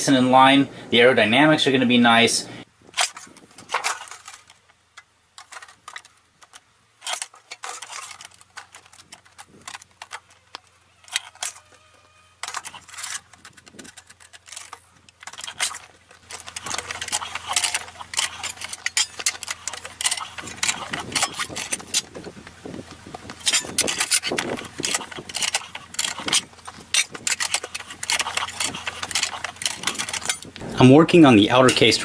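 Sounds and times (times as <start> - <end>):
sheet metal scraping and rattling: 2.8 - 4.7, 5.4 - 32.0.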